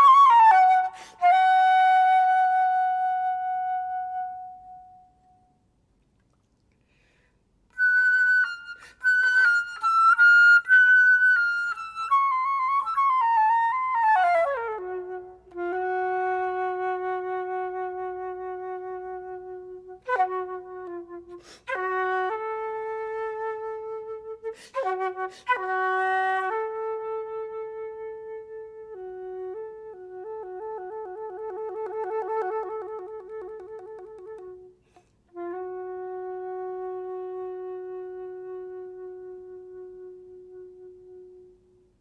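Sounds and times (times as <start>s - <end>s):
flute playing: 0.0s - 5.5s, 7.8s - 42.0s.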